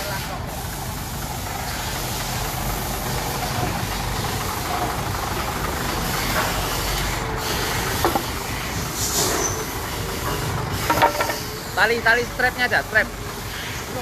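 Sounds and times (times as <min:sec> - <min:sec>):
heavy machinery humming and hissing: 0:00.0 - 0:14.0.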